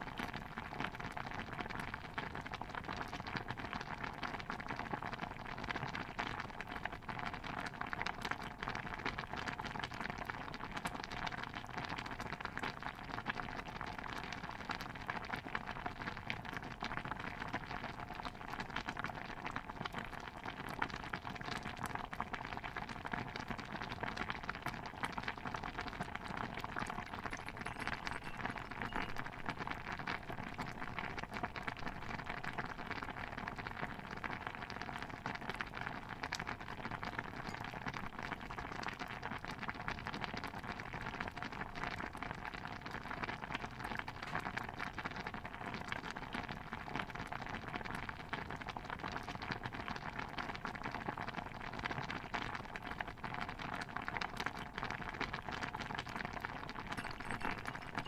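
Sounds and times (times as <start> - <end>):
stew bubbling in pot: 0.0 - 58.0.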